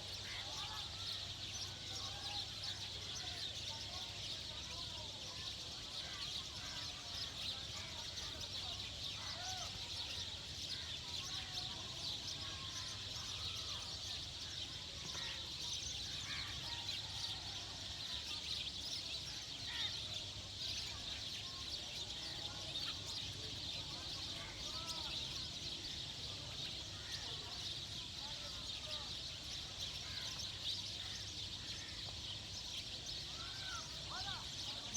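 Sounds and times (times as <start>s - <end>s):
chorus of high bird chirps: 0.0s - 34.9s.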